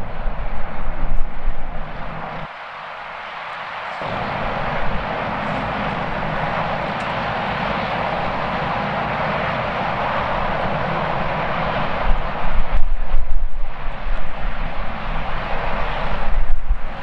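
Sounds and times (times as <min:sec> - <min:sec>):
wind rumbling on microphone: 0:00.0 - 0:02.5, 0:04.0 - 0:17.0
jet airliner engines: 0:00.0 - 0:17.0.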